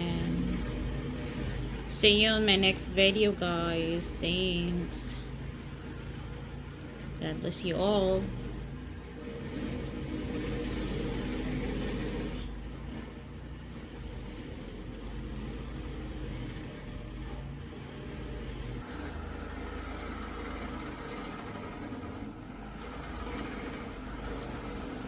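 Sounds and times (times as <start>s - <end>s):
stump grinder engine running: 0.0s - 25.0s.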